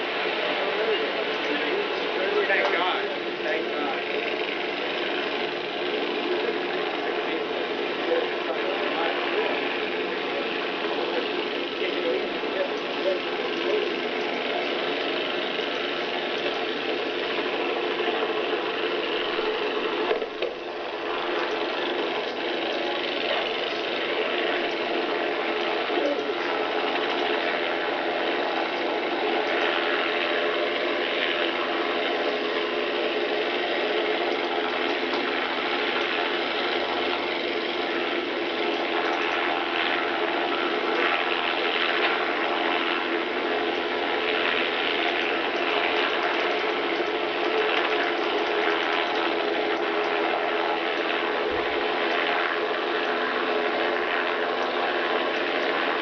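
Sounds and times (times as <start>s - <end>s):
steady mechanical humming: 0.0s - 56.0s.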